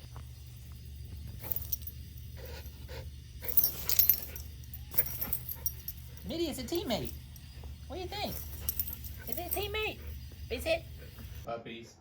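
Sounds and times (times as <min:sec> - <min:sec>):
steady low hum: 0:00.0 - 0:11.5
dog panting: 0:00.1 - 0:11.5.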